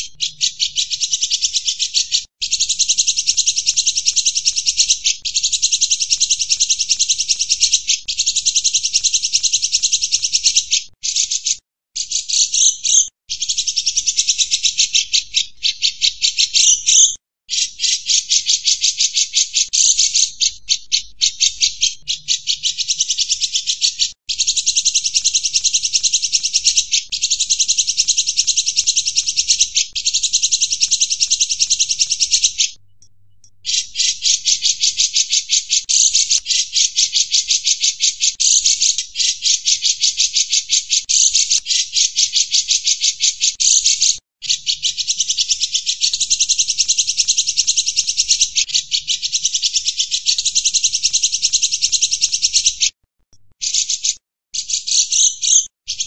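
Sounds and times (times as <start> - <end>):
bird singing rapid trills: 0.0 - 52.8, 53.6 - 56.0.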